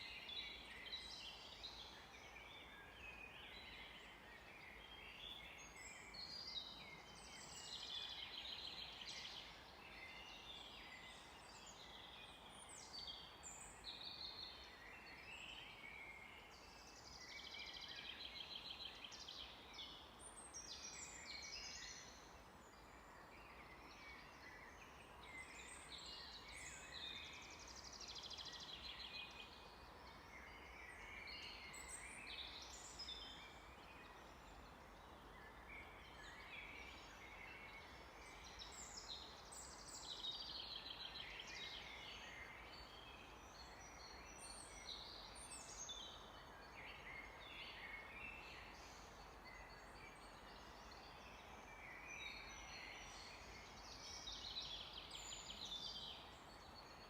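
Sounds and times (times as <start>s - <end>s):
light steady hiss: 0.0s - 57.0s
songbirds singing: 0.0s - 57.0s.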